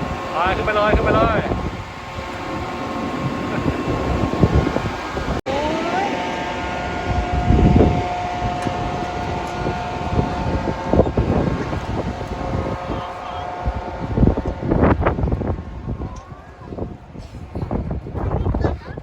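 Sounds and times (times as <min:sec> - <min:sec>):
siren-like tone: 0:00.0 - 0:16.9
wind buffeting microphone: 0:00.0 - 0:19.0.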